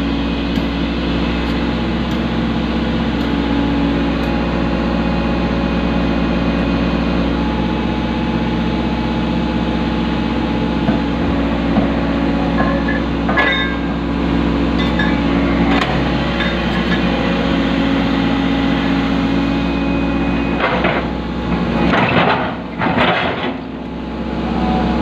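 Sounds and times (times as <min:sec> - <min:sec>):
excavator diesel engine: 0:00.0 - 0:25.0
hydraulics working: 0:00.0 - 0:25.0.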